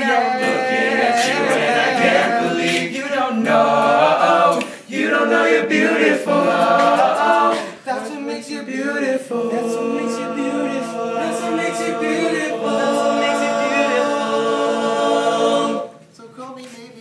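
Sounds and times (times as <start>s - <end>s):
a cappella group singing: 0.0s - 16.1s.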